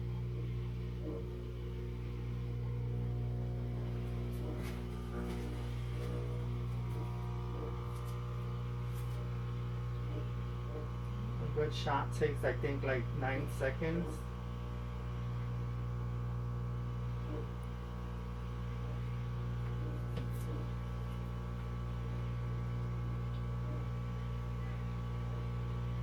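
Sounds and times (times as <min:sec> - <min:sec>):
espresso machine pump humming: 0:00.0 - 0:26.0.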